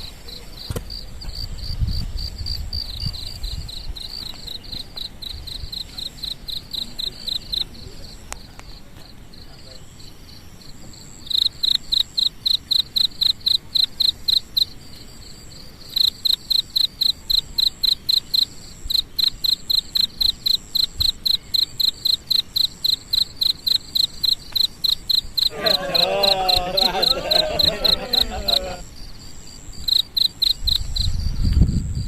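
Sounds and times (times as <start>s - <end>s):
cricket chirping: 0.0s - 32.0s
faint high insect drone: 0.0s - 32.0s.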